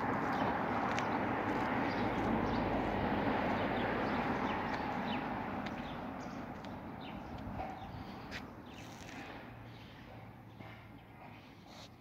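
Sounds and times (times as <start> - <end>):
passing traffic rush: 0.0 - 12.0
small birds chirping: 0.2 - 12.0.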